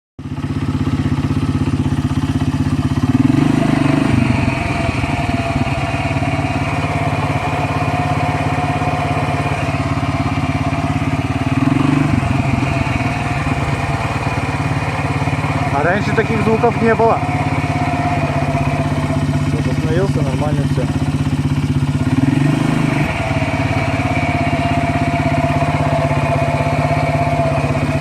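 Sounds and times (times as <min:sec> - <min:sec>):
atv engine running: 0:00.2 - 0:28.0.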